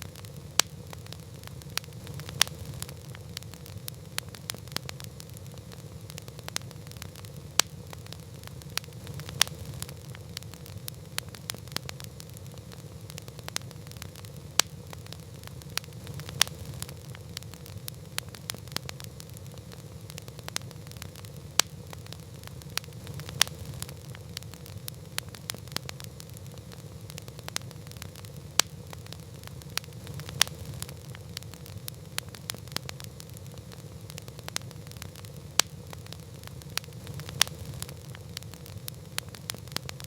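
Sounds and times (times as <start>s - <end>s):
campfire crackling and popping: 0.0s - 40.0s
low rumble of flames: 0.0s - 40.0s.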